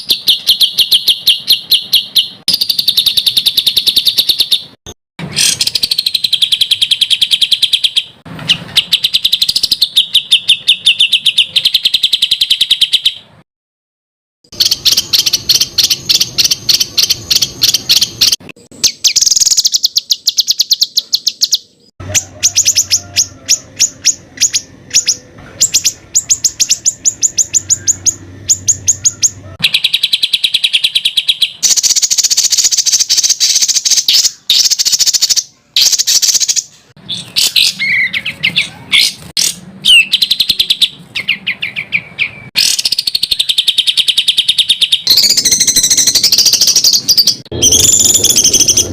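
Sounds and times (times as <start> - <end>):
songbirds rapid repeated notes: 0.0 - 13.4, 14.5 - 48.9.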